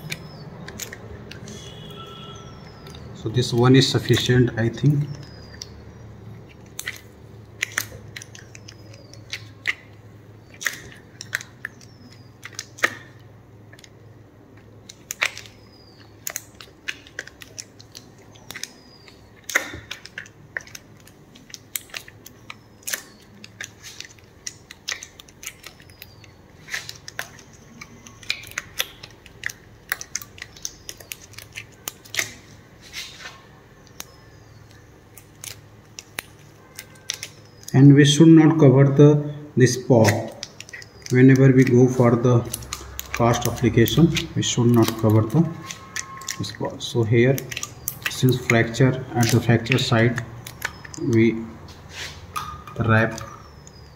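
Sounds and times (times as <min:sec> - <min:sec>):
casting tape crackling and rustling: 0:00.0 - 0:38.3, 0:39.6 - 0:53.9.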